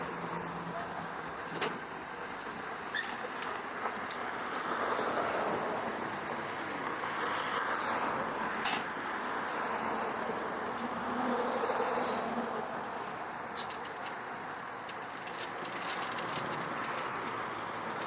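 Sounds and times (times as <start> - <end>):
cars passing on street: 0.0 - 18.0.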